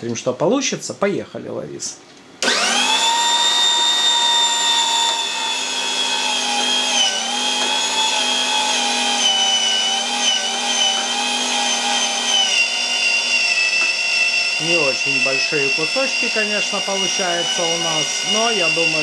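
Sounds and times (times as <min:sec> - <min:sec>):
electric meat grinder whine: 0:02.4 - 0:19.0.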